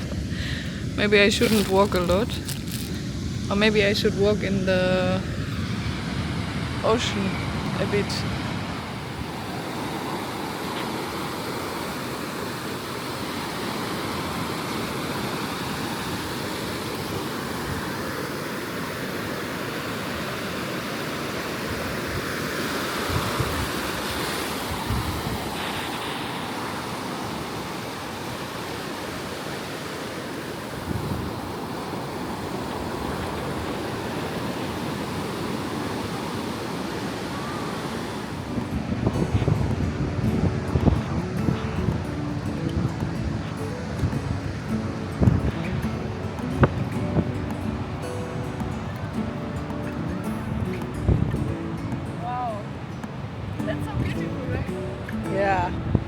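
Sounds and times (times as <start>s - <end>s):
ocean surf washing on beach: 0.0s - 56.0s.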